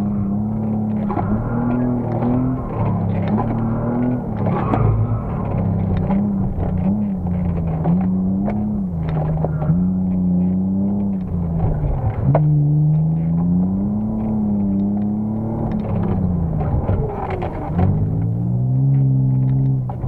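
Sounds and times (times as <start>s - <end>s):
car engine revving: 0.0s - 20.0s
sharp knocks and clicks: 0.5s - 20.0s.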